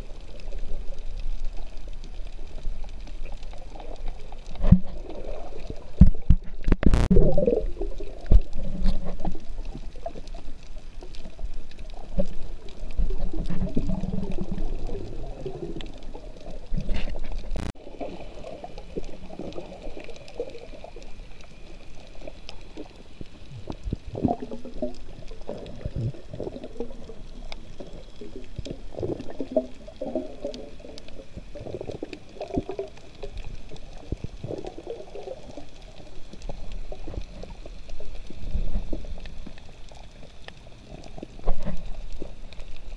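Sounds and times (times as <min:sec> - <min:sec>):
water gurgling and sloshing: 0:00.0 - 0:42.9.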